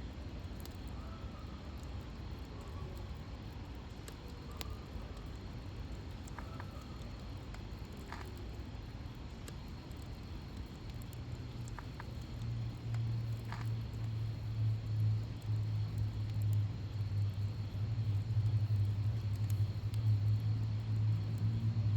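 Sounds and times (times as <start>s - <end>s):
fire crackling and popping: 0.1s - 21.9s.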